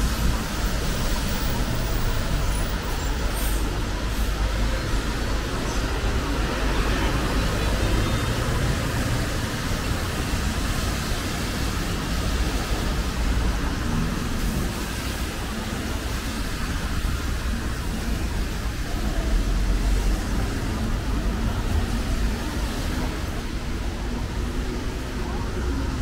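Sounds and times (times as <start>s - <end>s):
rain hiss: 0.0s - 26.0s
street traffic rumble: 0.0s - 26.0s.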